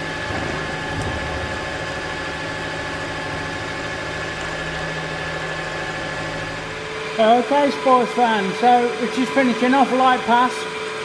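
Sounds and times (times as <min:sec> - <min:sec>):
milling machine running: 0:00.0 - 0:11.0.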